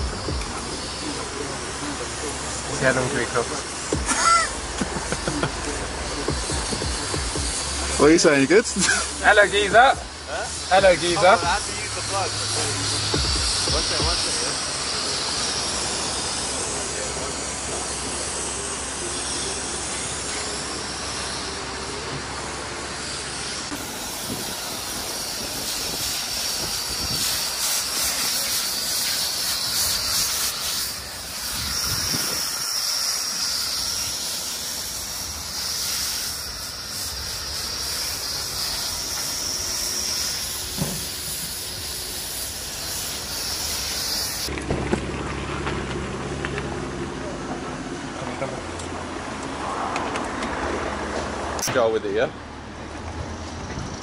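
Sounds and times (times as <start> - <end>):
pressure washer foam spraying: 0.0 - 44.5.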